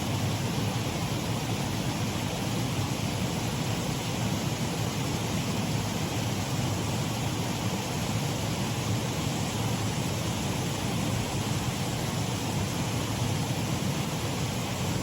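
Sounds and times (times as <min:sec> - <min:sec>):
water rushing over small waterfall: 0:00.0 - 0:15.0.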